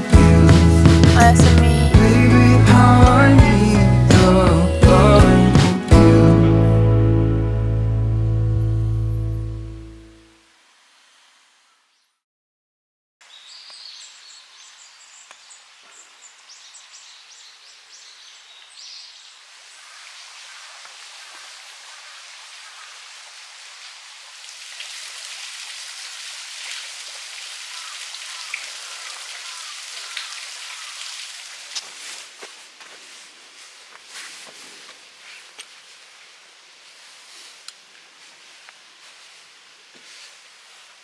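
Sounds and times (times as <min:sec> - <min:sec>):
rain falling: 0:00.0 - 0:11.6, 0:13.4 - 0:34.0, 0:34.9 - 0:41.0.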